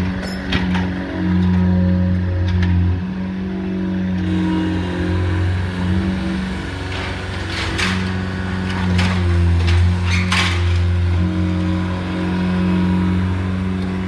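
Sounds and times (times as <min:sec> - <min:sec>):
machine engine running: 0:00.0 - 0:14.0.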